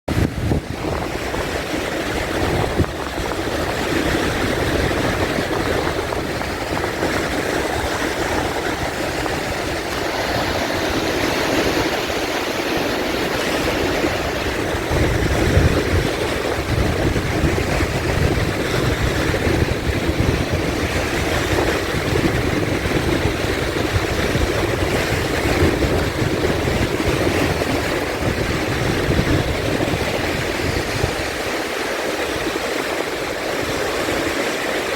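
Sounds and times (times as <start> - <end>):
sea waves breaking: 0.1 - 34.9.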